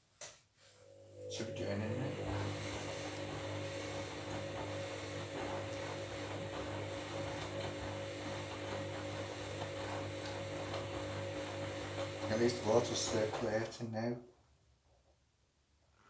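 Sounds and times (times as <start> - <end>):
washing machine humming: 0.8 - 13.9.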